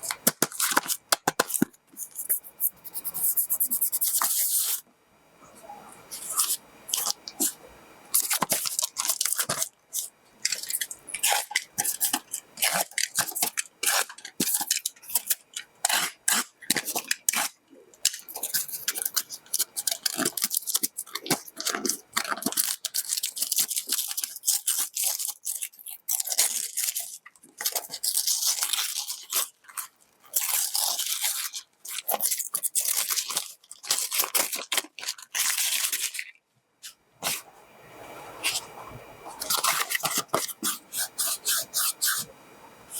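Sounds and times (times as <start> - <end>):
packaging crinkling and tearing: 0.0 - 2.4, 6.2 - 36.4, 39.3 - 42.3.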